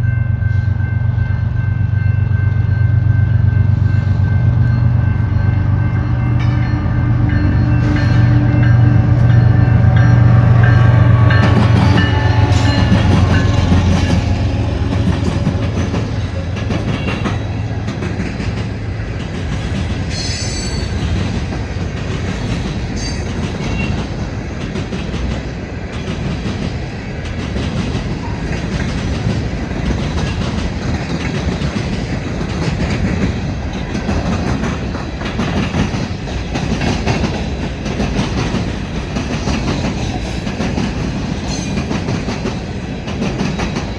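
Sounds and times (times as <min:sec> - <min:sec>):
diesel locomotive drone: 0:00.0 - 0:43.9
train wheels rumbling on rails: 0:00.0 - 0:43.9.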